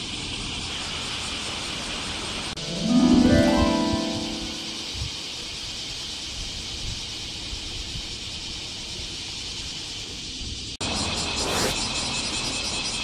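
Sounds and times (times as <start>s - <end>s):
cicadas chorus hissing: 0.0s - 13.0s.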